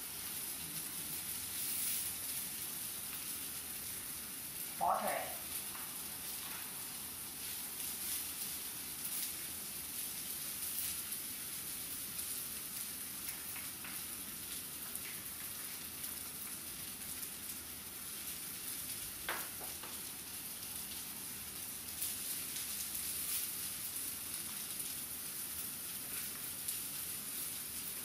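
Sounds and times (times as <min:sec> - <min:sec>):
vegetables sizzling in a wok: 0:00.0 - 0:04.8, 0:05.4 - 0:28.0.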